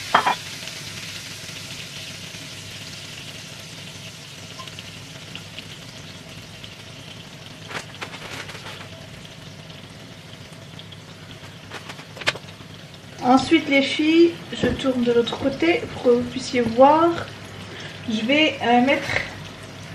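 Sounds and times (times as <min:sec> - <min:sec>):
fish sizzling in a pan: 0:00.0 - 0:19.9.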